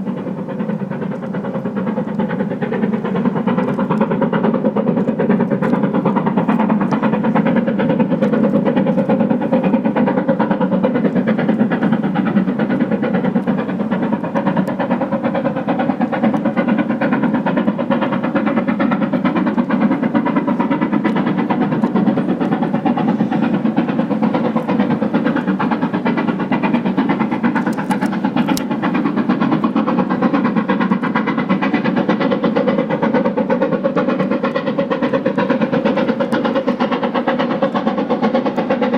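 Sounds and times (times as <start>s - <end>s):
steam locomotive exhaust roar: 0.0s - 38.9s.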